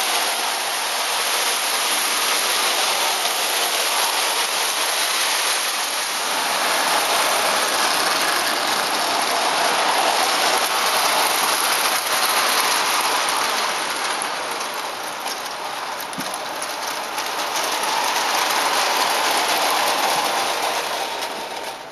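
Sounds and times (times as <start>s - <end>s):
clockwork toy train rattling: 0.0s - 21.9s.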